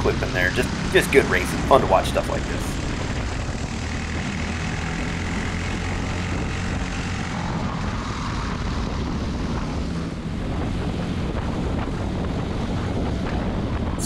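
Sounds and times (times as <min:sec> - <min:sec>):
kart engine racing: 0:00.0 - 0:14.0
other karts nearby: 0:00.0 - 0:14.0.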